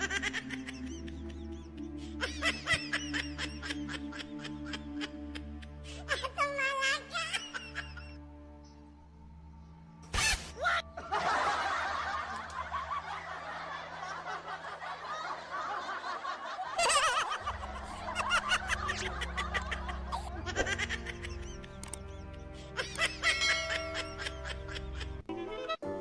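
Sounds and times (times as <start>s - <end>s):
people laughing: 0.0s - 8.2s, 10.6s - 25.2s
background music: 0.0s - 26.0s.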